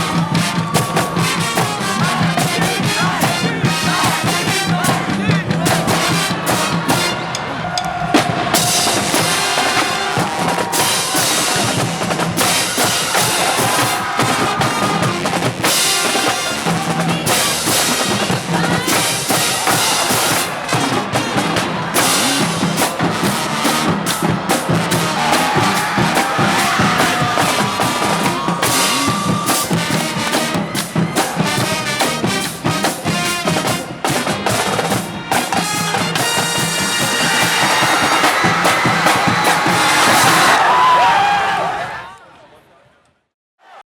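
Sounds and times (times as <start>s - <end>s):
band playing up-tempo music: 0.0s - 7.5s, 8.2s - 40.8s
snare and bass drum beat: 0.0s - 7.5s, 8.1s - 40.7s.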